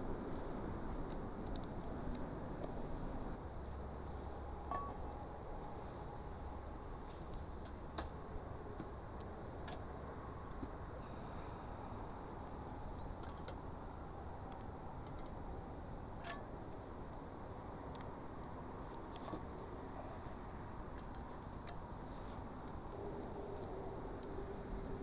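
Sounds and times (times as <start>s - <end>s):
campfire crackling and popping: 0.0s - 25.0s
faint steady hiss: 0.0s - 25.0s.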